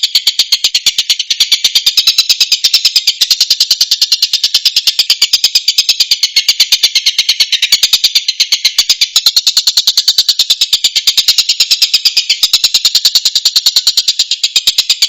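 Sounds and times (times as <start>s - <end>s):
bird chattering: 0.0s - 15.0s.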